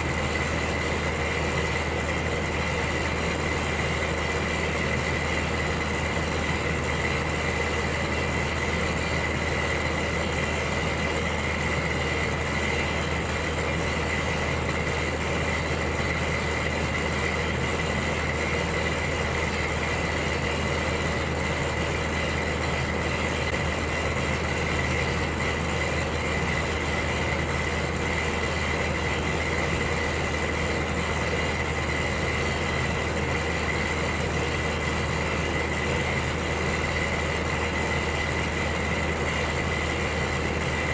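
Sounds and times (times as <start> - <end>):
electric heater humming: 0.0 - 40.9.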